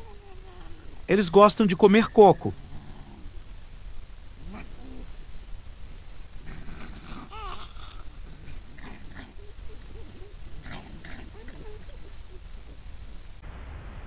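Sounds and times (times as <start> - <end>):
foxes giving short tense calls: 0.0 - 13.4
night insects droning: 0.0 - 13.7.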